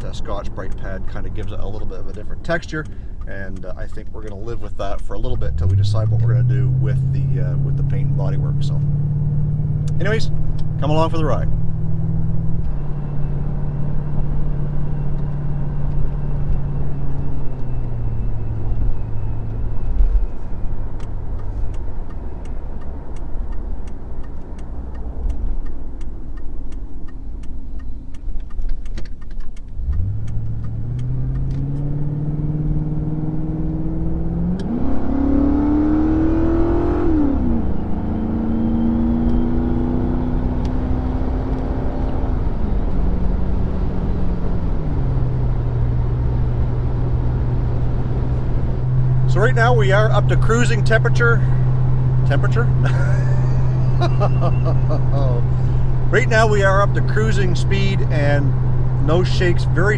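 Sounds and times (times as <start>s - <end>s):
car engine from inside cabin: 0.0s - 59.9s
turn signal ticking: 0.0s - 59.9s.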